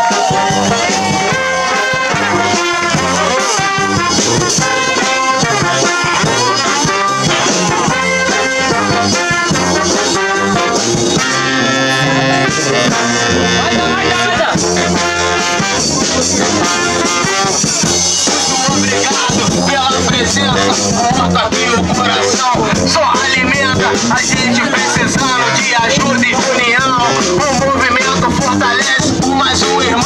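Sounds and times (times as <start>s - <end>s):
brass band playing: 0.0s - 30.0s.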